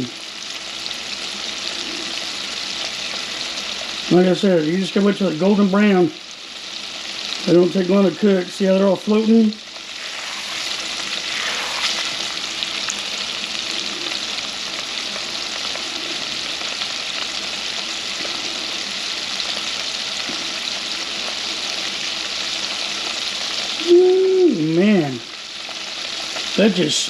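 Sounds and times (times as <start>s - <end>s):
shrimp deep-frying in hot oil: 0.0s - 27.0s.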